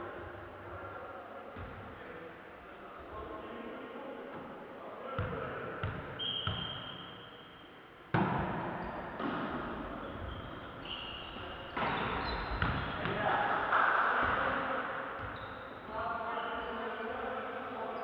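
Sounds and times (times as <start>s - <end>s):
sports hall noise: 0.0s - 18.0s.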